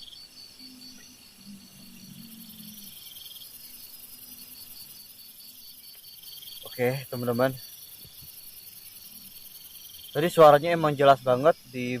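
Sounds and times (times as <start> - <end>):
crickets chirping: 0.0 - 12.0
insect buzzing: 0.0 - 12.0.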